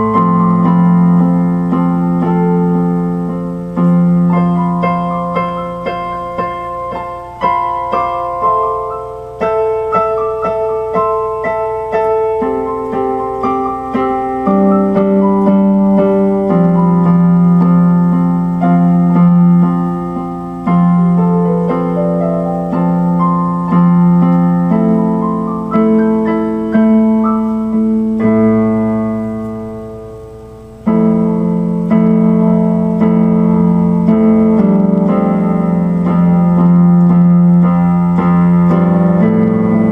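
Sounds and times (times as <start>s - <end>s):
electronic keyboard piano melody: 0.0s - 39.9s.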